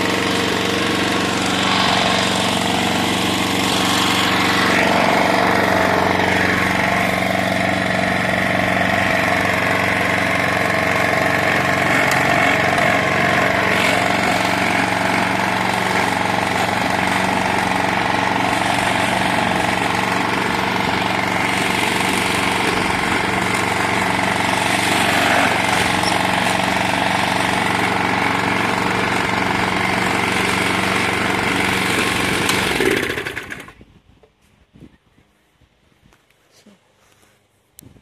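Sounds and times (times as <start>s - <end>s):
lawn mower engine running: 0.0s - 33.8s.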